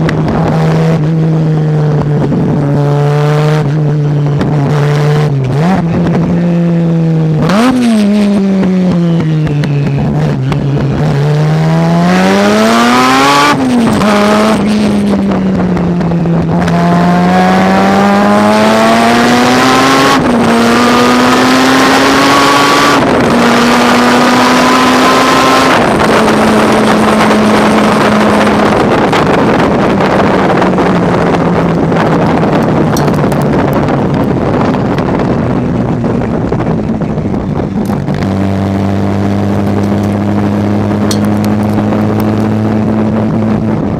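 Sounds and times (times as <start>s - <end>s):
rotary engine accelerating: 0.0s - 43.9s
wind and road noise: 0.0s - 43.9s.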